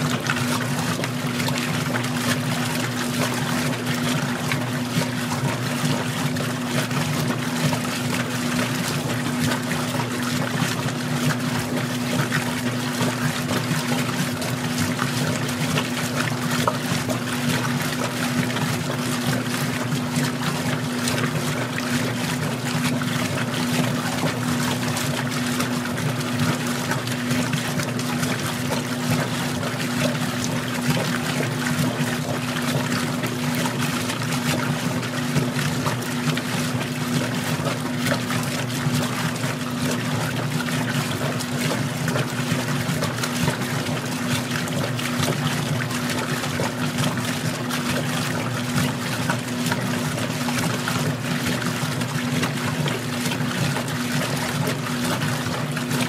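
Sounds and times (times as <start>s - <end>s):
washing machine motor hum: 0.0s - 56.0s
water churning and splashing: 0.0s - 56.0s.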